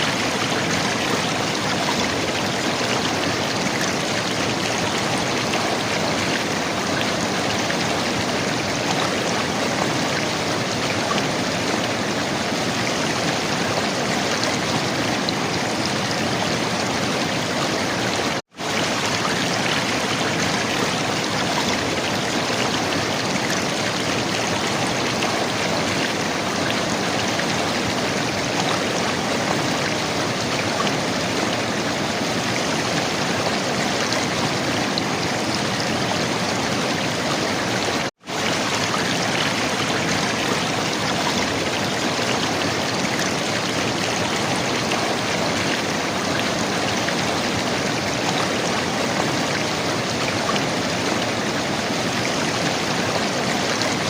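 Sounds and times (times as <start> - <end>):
river water flowing and gurgling: 0.0 - 54.0.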